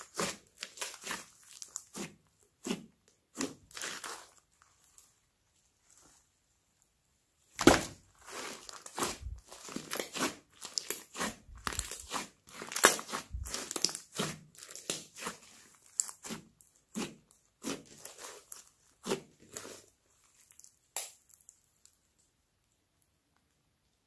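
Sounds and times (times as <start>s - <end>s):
slime squishing and crackling: 0.0s - 5.2s, 7.5s - 22.0s.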